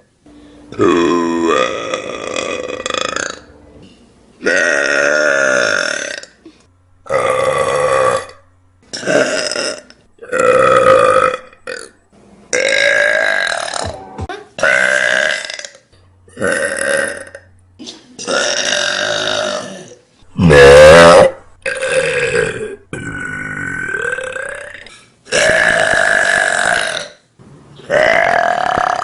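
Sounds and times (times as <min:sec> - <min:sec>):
person burping loudly: 0:00.7 - 0:03.5, 0:04.4 - 0:27.2, 0:27.9 - 0:29.0.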